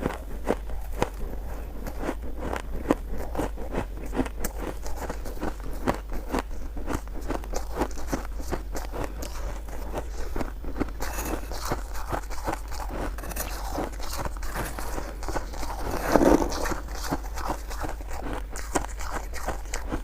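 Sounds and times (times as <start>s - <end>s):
chewing crunchy shaved ice: 0.0s - 20.0s.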